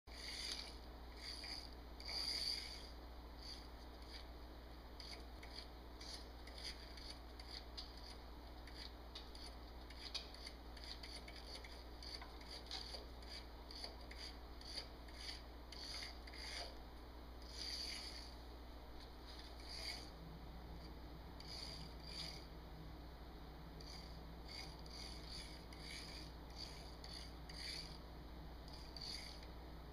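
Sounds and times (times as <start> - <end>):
steady low hum: 0.1 - 29.9.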